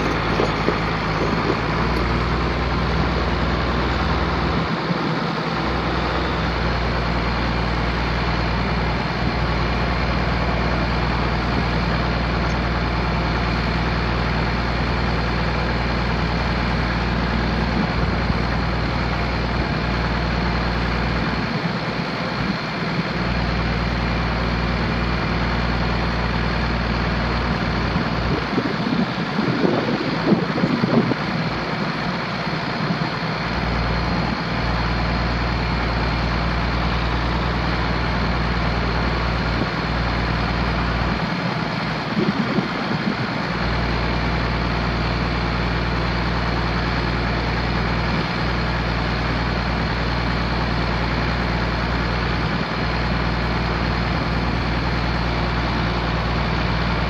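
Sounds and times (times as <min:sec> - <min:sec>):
diesel tractor engine running: 0:00.0 - 0:57.0
short rough engine noises: 0:00.0 - 0:57.0.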